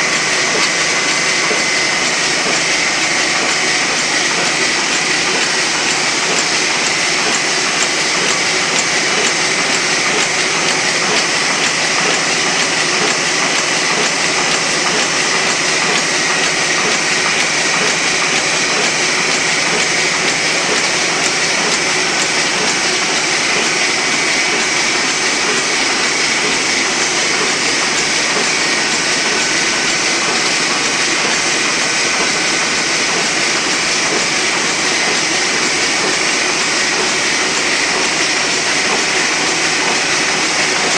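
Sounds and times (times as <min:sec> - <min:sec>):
printing press clatter: 0:00.0 - 0:40.9.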